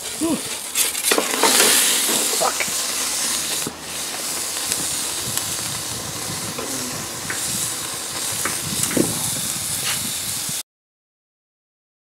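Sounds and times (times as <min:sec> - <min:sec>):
gas burner hissing: 0:00.0 - 0:10.6.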